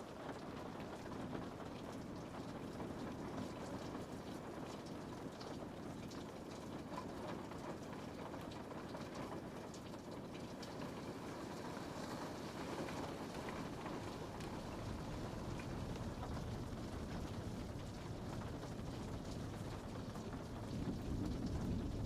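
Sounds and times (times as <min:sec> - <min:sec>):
rain on a window: 0:00.0 - 0:22.0
raindrop ticks: 0:00.2 - 0:22.0.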